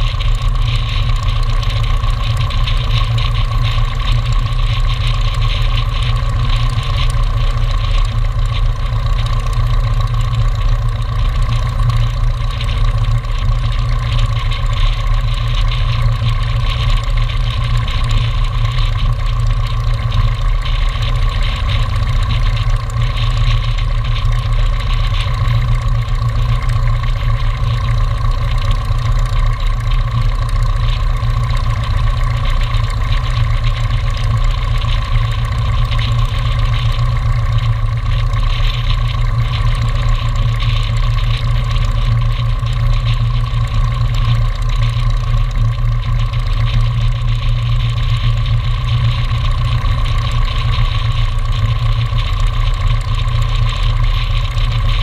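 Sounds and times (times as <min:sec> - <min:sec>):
aircraft propeller engine idling: 0:00.0 - 0:55.0.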